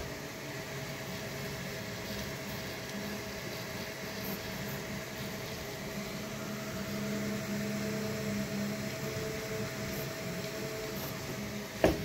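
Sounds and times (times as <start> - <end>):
fan whir and hiss: 0.0 - 12.0
stepper motors humming: 0.0 - 12.0.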